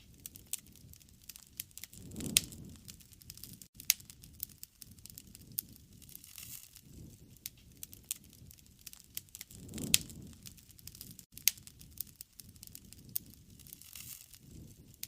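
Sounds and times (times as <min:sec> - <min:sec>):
low rush of flames: 0:00.0 - 0:15.0
sharp pops and snaps: 0:00.0 - 0:15.0
wood fire crackling: 0:00.0 - 0:15.0.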